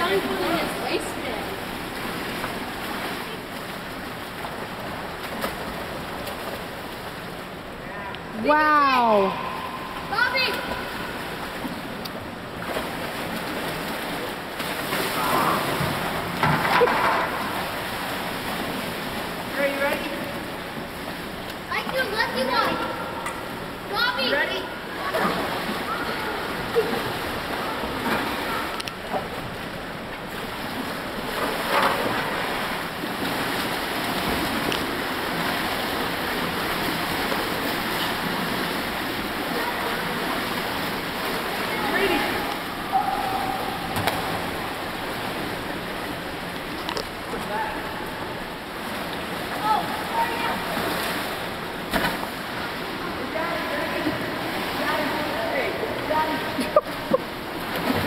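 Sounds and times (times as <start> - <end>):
indoor pool noise: 0.0 - 58.0
water splashing and sloshing: 0.0 - 58.0.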